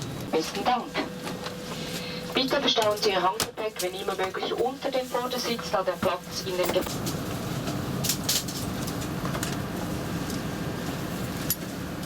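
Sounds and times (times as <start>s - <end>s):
aircraft cabin air-conditioning hum: 0.0s - 12.0s.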